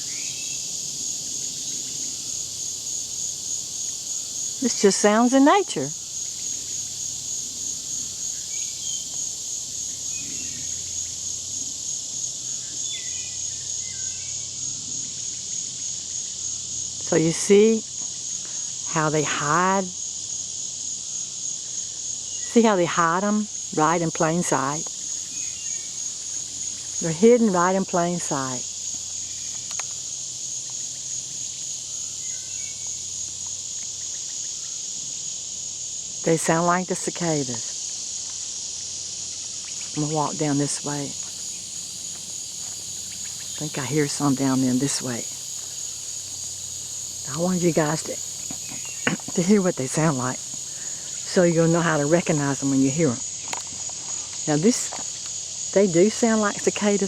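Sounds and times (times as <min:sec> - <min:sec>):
insects singing: 0:00.0 - 0:57.0.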